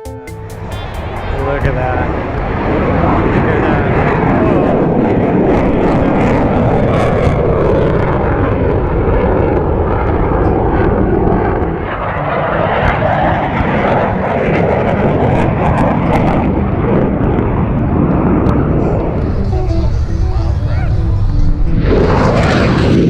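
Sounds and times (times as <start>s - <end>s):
airplane engine passing: 0.0s - 23.0s.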